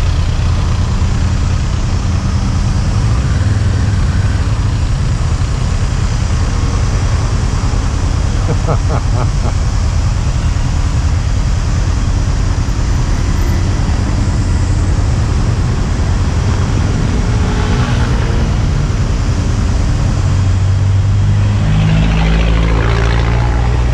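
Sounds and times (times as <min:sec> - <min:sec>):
motorcycle engine at low speed: 0:00.0 - 0:23.9
surrounding car traffic: 0:00.0 - 0:23.9.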